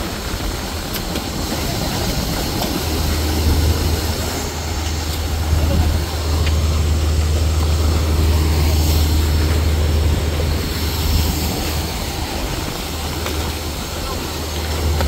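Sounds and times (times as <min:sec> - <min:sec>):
drilling rig air compressor drone: 0:00.0 - 0:15.0.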